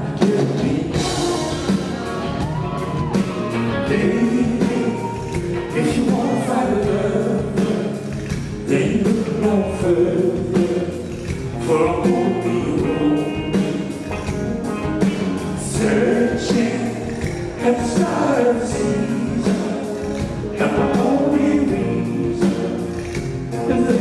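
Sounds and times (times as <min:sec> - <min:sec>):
live rock band playing: 0:00.0 - 0:24.0
man singing: 0:00.0 - 0:24.0.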